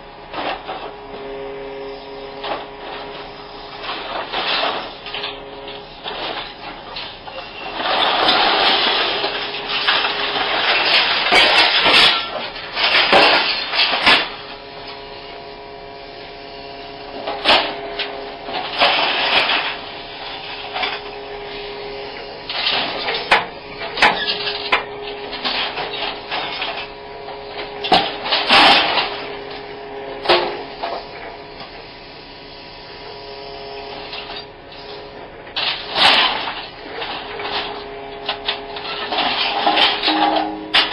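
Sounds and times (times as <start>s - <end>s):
machine engine hum: 0.0s - 40.9s
scrap metal crashing and clanking: 0.4s - 0.9s, 2.1s - 15.0s, 17.1s - 31.8s, 33.8s - 40.9s.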